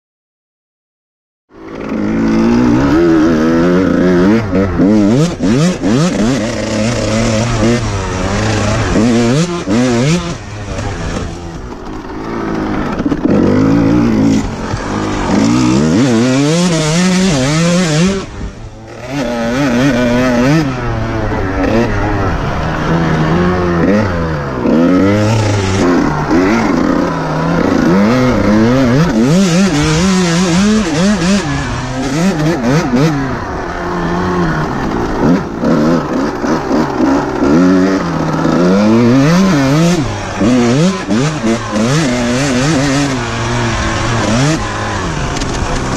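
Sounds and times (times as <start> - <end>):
two-stroke engine revving: 1.5 - 45.9.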